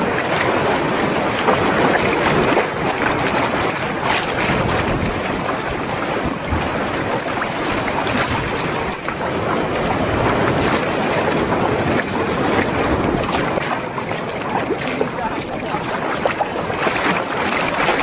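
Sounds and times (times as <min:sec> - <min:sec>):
water slapping against kayak hull: 0:00.0 - 0:18.0
wind buffeting microphone: 0:00.0 - 0:18.0.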